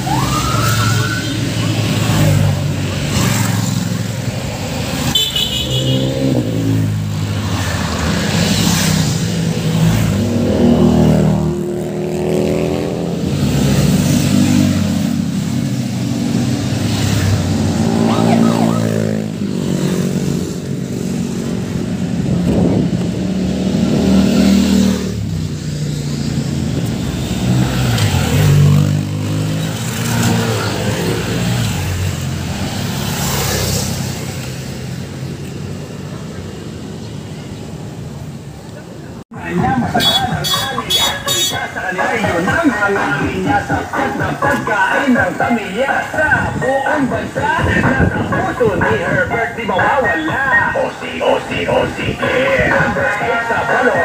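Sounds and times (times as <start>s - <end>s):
motorcycles passing revving: 0.0s - 54.0s.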